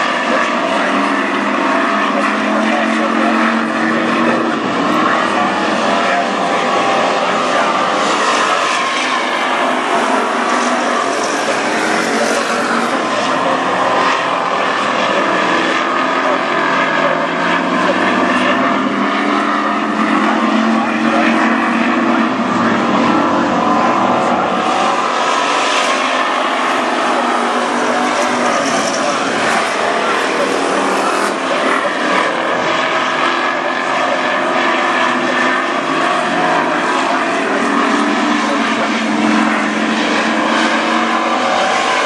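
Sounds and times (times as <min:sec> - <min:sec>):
race car engines roaring: 0:00.0 - 0:42.0.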